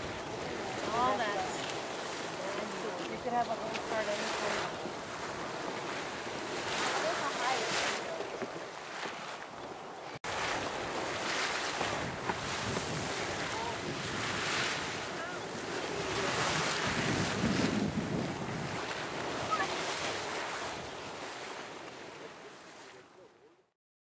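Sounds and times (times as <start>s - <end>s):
wind rumbling on microphone: 0.0s - 22.1s
geyser water splashing and surging: 0.0s - 23.1s.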